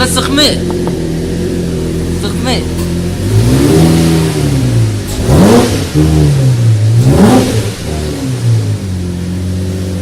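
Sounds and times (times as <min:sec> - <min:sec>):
car engine revving and idling: 0:00.0 - 0:10.0.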